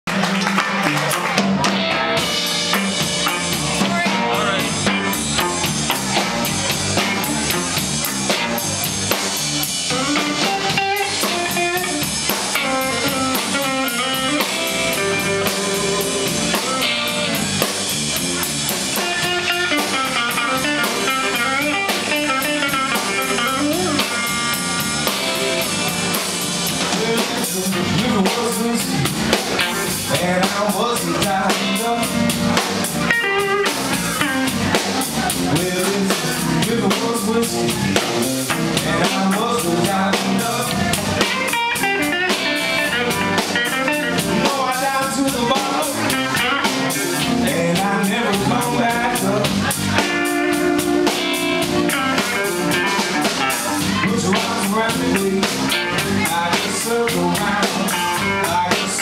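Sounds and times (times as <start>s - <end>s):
bass guitar: 0.0s - 59.0s
drum kit beat: 0.1s - 59.0s
electric guitar lead lines: 0.1s - 59.0s.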